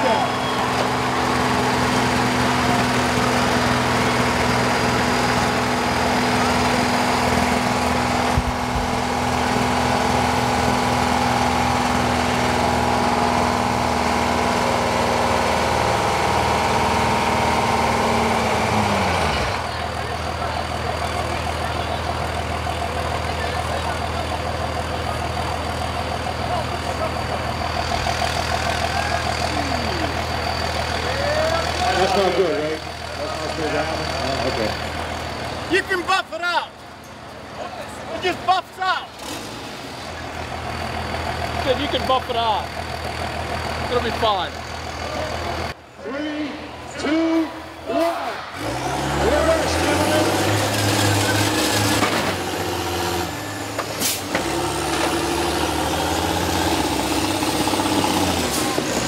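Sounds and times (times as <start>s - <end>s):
heavy bus engines running: 0.0s - 59.0s.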